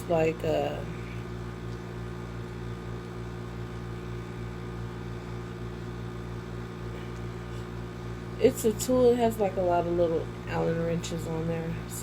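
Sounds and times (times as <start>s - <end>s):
machine hum with low tones: 0.0s - 12.0s.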